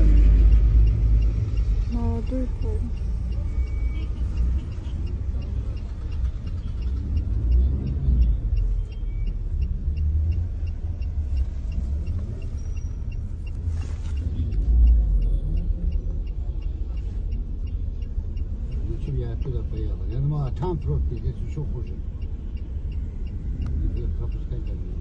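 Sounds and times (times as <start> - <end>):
car rumble inside cabin: 0.0 - 25.0.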